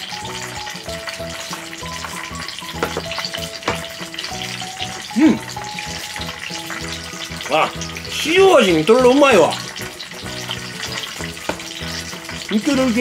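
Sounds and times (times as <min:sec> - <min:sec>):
background music: 0:00.0 - 0:13.0
deep-frying sizzle: 0:00.0 - 0:13.0.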